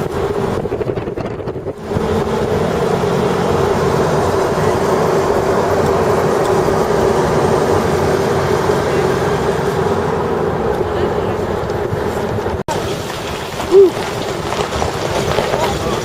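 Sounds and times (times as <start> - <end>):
truck rumble: 0.0 - 16.0
wind and road noise: 0.0 - 16.0.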